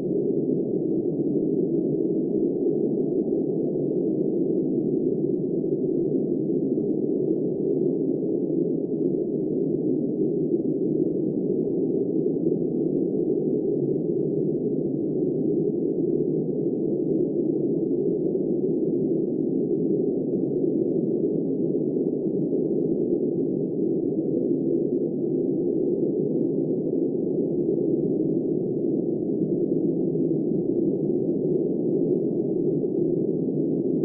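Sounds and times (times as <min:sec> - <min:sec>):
muffled blizzard wind rush: 0:00.0 - 0:34.0.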